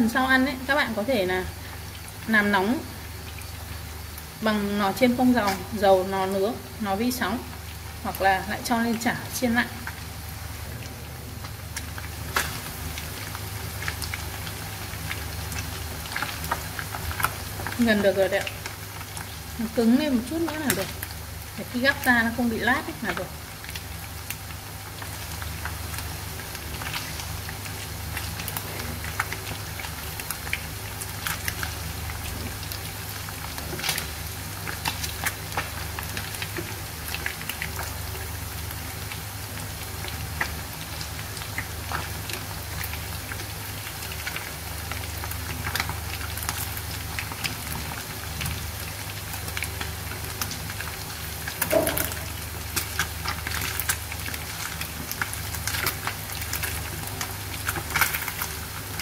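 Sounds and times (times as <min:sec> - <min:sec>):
low steady hum: 0:00.0 - 0:59.0
oil sizzling and popping: 0:00.0 - 0:59.0.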